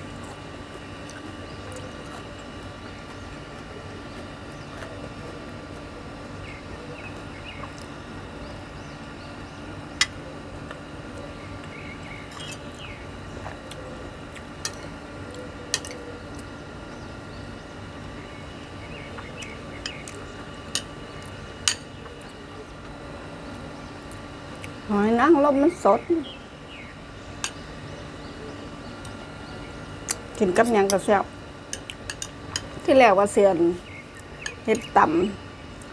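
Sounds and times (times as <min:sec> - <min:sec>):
steady background hum: 0:00.0 - 0:35.9.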